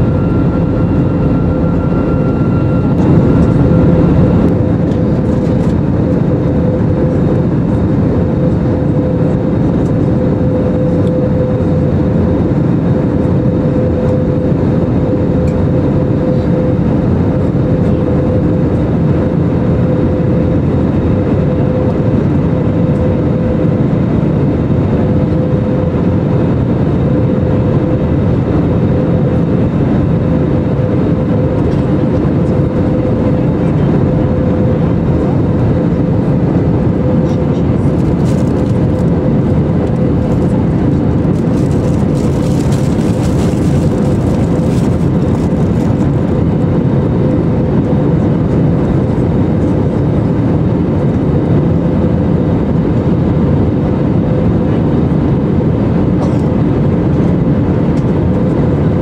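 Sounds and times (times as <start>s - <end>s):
airflow rush and engine rumble: 0.0s - 59.0s
steady hum: 0.0s - 59.0s.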